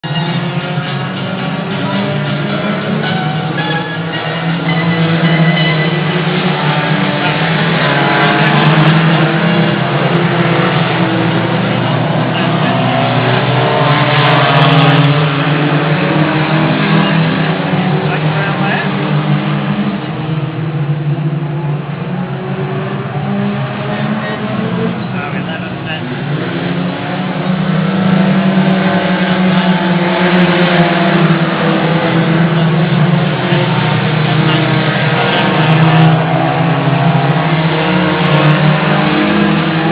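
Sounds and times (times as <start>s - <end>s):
race car engines running: 0.0s - 39.9s.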